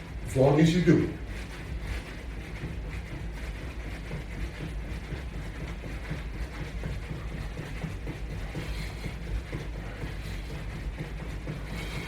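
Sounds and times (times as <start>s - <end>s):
footfalls of person jogging: 0.0s - 12.0s
steady low hum: 0.0s - 12.0s.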